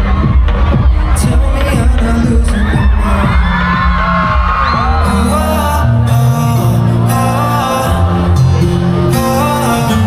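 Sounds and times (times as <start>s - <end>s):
bass notes: 0.0s - 10.0s
guitar: 0.0s - 10.0s
person singing: 0.9s - 10.0s.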